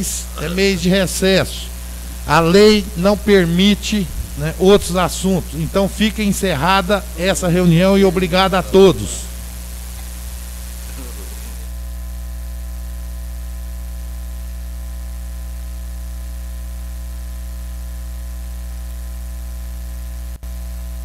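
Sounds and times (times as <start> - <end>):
electrical mains hum with buzz: 0.0 - 21.0.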